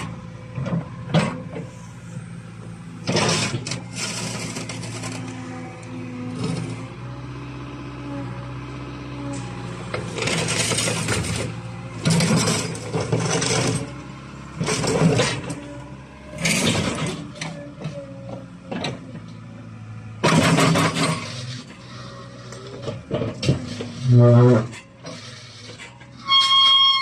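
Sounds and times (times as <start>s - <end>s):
excavator working noise bursts: 0.0s - 18.1s, 19.8s - 27.0s
excavator diesel engine running: 0.0s - 27.0s.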